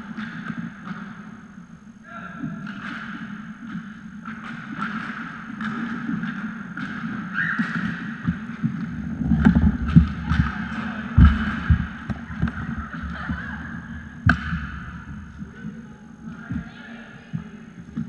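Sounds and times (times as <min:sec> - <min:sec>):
heavy thumps of skates and sticks: 0:00.1 - 0:01.3, 0:02.4 - 0:18.0
hockey sticks and ball clacking: 0:00.1 - 0:01.4, 0:02.6 - 0:13.5, 0:14.2 - 0:16.7
inline skate wheels rolling: 0:02.7 - 0:18.0.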